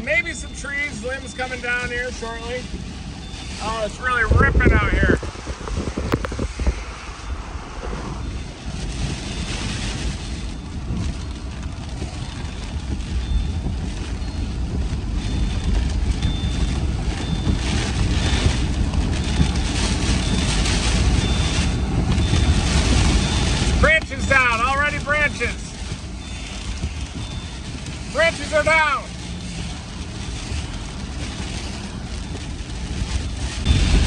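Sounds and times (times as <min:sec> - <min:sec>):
heavy rain lashing a vehicle: 0:00.0 - 0:34.0
wind gusts rumbling on microphone: 0:00.0 - 0:34.0.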